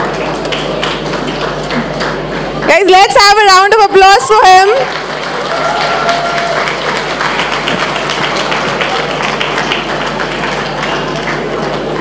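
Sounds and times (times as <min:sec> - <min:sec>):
audience applauding: 0:00.0 - 0:02.4, 0:04.6 - 0:12.0.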